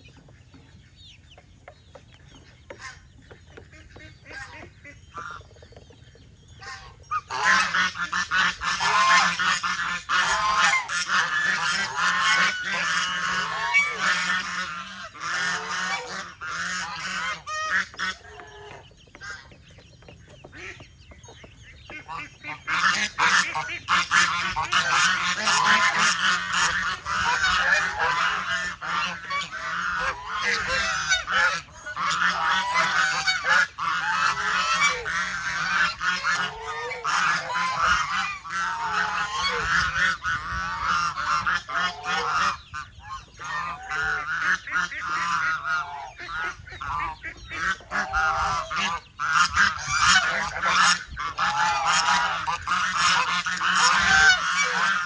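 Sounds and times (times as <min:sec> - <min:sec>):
geese honking: 0:02.6 - 0:05.6, 0:06.6 - 0:19.6, 0:20.4 - 0:55.0.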